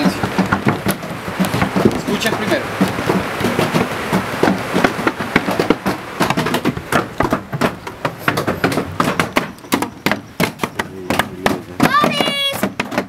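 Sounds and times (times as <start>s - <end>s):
child beating percussive hits: 0.0s - 13.0s.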